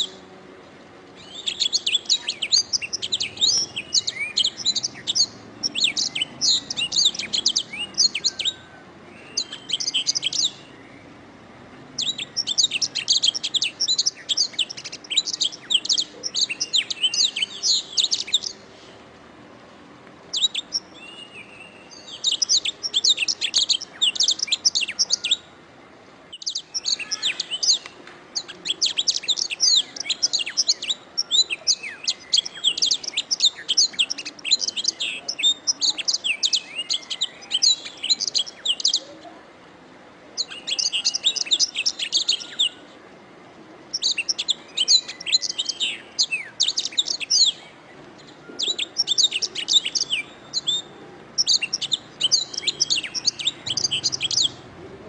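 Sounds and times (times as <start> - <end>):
canary singing: 0.0 - 0.4, 1.2 - 18.9, 20.3 - 25.5, 26.3 - 39.4, 40.4 - 43.0, 43.9 - 55.0.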